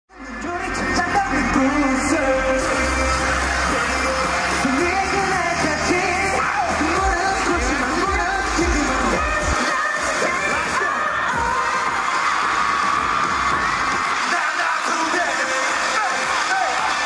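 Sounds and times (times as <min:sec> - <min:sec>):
loud pop song with bass beat: 0:00.1 - 0:17.0.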